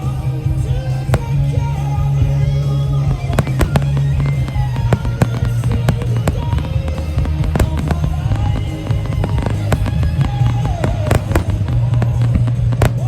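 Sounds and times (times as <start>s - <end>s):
deep booming rumble: 0.0s - 13.0s
fireworks shells bursting: 1.1s - 1.9s, 3.0s - 13.0s.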